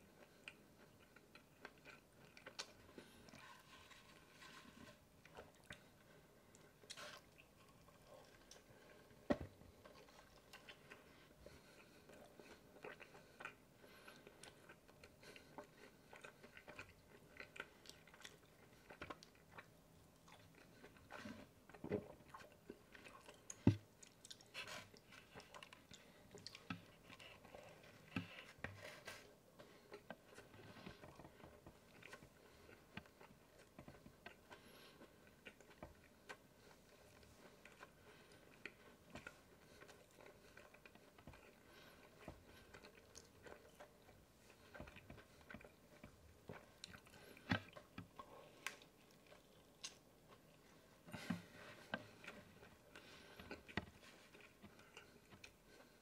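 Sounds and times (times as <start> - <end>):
chewing and biting food: 0.0 - 56.0.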